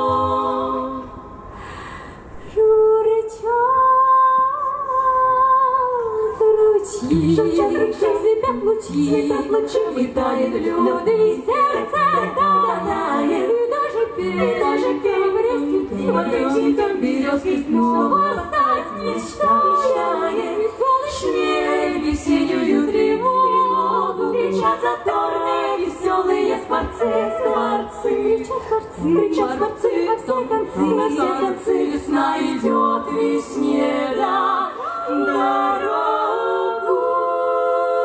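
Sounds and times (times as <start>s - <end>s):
women singing a cappella: 0.0s - 38.0s.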